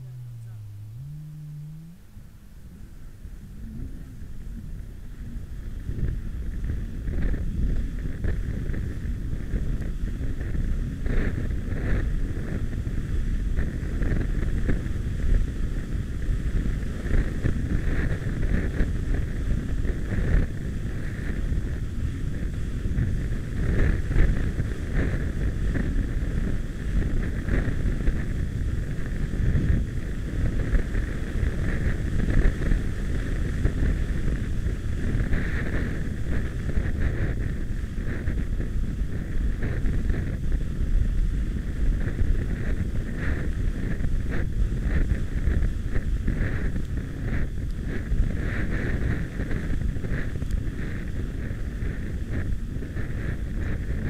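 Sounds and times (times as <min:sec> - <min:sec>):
jet ski engine rumble and whine: 0:00.0 - 0:54.0
wind buffeting microphone: 0:00.0 - 0:54.0.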